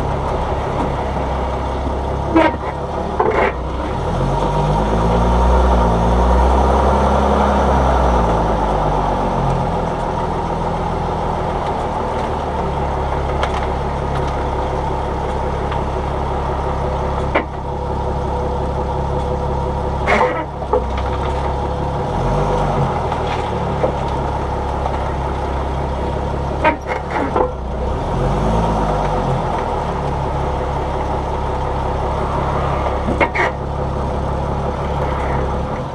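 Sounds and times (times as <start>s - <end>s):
vehicle engine and road noise: 0.0s - 35.9s.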